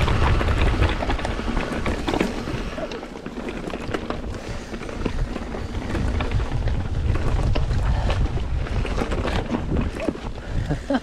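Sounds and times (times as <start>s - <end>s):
bike clicks and rattles: 0.0s - 11.0s
bike tyres on dirt trail: 0.0s - 11.0s
wind buffeting microphone: 0.0s - 11.0s.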